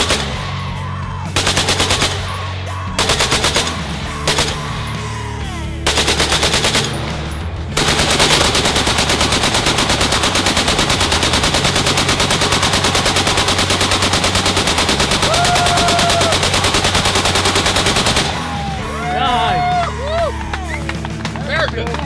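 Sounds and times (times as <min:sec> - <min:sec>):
machine gun firing bursts: 0:00.0 - 0:00.7, 0:01.3 - 0:05.1, 0:05.8 - 0:19.0.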